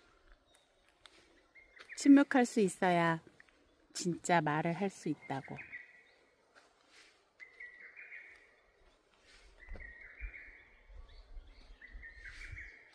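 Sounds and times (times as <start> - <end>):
songbird singing: 0.0 - 12.9.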